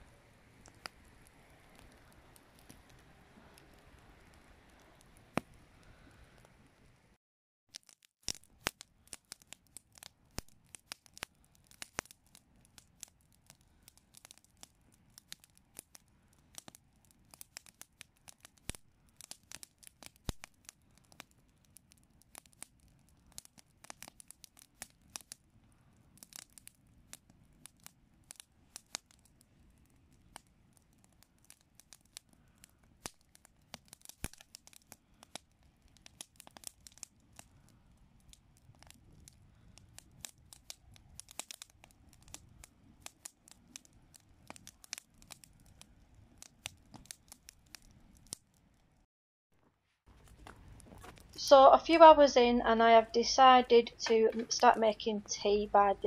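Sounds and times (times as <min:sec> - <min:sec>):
campfire crackling and popping: 0:00.0 - 0:49.1, 0:50.0 - 0:56.0.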